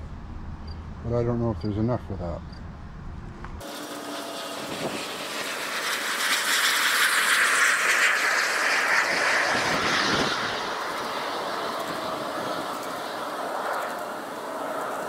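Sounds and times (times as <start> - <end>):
distant vehicle passing: 0.0 - 15.0.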